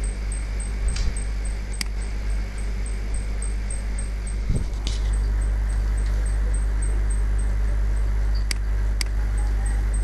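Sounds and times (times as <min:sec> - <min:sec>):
low electrical hum and hiss: 0:00.0 - 0:10.0.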